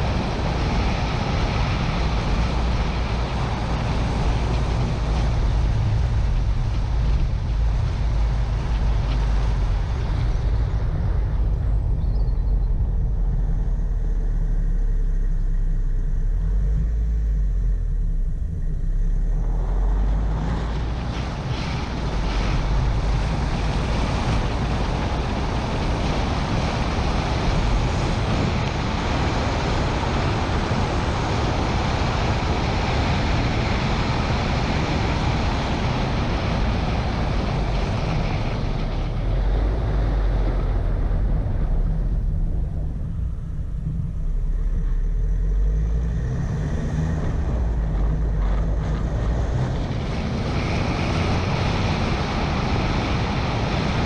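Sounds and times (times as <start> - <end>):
engine and road noise rumble: 0.0 - 54.0
wind buffeting microphone: 0.0 - 54.0.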